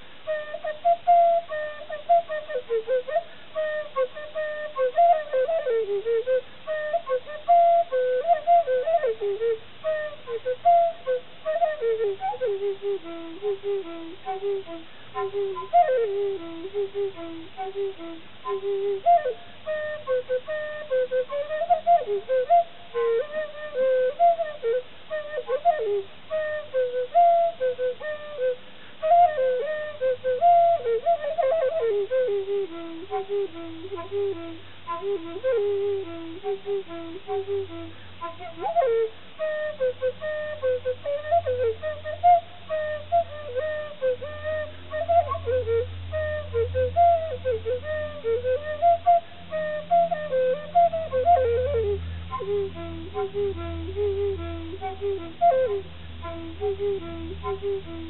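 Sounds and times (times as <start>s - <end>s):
solo flute melody: 0.0s - 58.0s.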